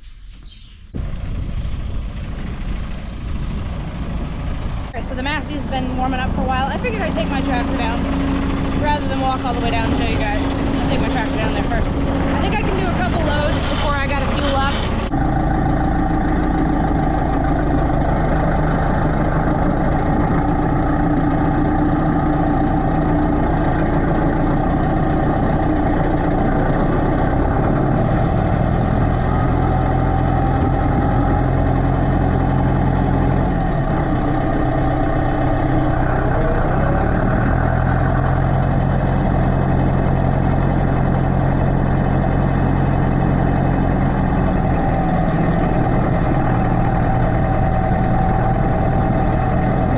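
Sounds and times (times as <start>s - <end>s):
tractor engine running: 0.9s - 49.9s.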